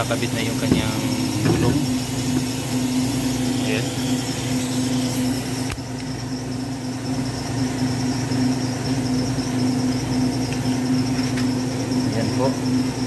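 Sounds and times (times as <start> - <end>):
high whine: 0.0 - 13.0
low machine hum: 0.0 - 13.0.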